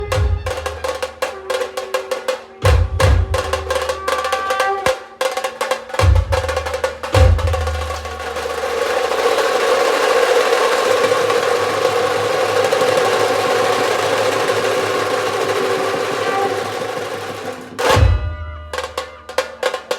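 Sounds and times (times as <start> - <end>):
drum roll: 0.0 - 19.9
drums playing: 0.0 - 19.9.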